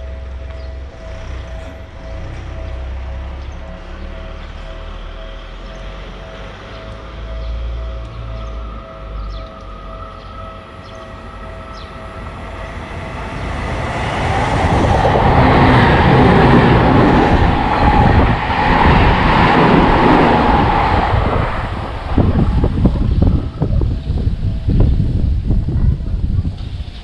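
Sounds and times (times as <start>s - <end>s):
train passing at speed: 0.0s - 26.8s.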